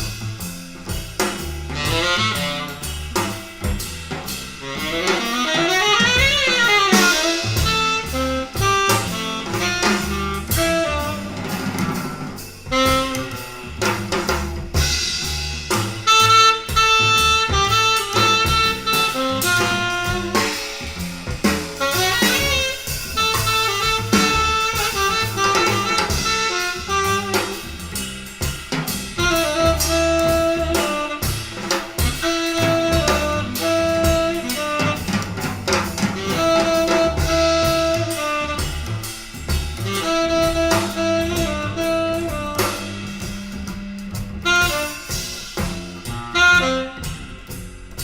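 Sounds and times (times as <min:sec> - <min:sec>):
drum kit: 0:00.0 - 0:48.0
saxophone playing: 0:01.7 - 0:03.5, 0:04.6 - 0:12.0, 0:12.7 - 0:13.6, 0:16.0 - 0:21.0, 0:21.8 - 0:28.0, 0:29.2 - 0:47.7.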